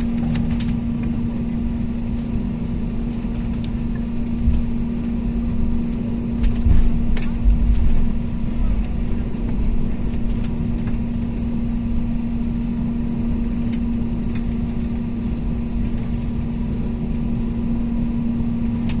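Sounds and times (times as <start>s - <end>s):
airliner engines droning: 0.0s - 19.0s.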